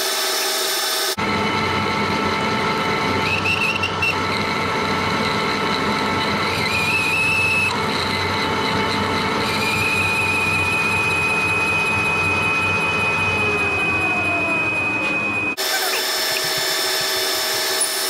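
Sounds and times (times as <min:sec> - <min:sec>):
lathe gearing whining: 0:00.0 - 0:18.0
cutting tool squealing: 0:03.1 - 0:18.0.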